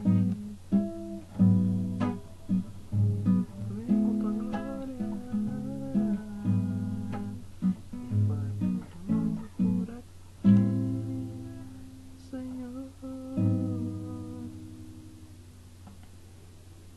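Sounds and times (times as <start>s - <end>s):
acoustic guitar strumming: 0.0s - 15.6s.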